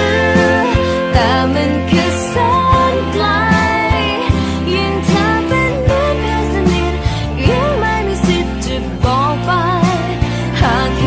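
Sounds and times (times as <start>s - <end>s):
pop song with band: 0.0s - 11.0s.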